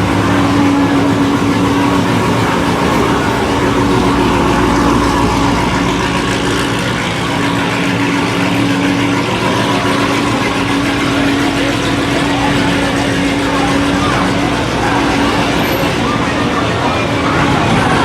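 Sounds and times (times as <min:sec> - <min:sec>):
car engines droning: 0:00.0 - 0:18.0.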